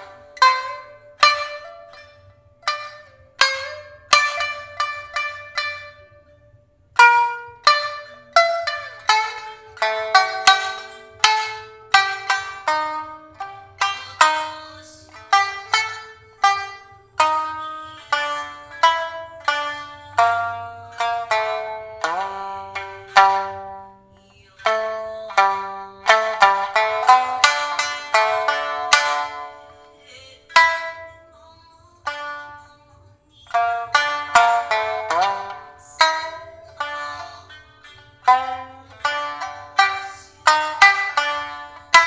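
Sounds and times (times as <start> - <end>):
shamisen plucked melody: 0.0 - 42.0.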